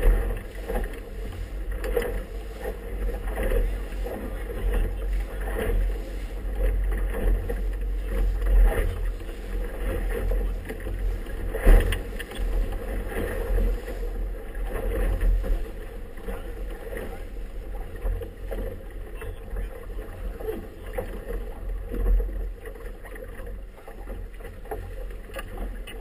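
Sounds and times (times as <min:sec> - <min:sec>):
water slapping boat hull: 0:00.0 - 0:26.0.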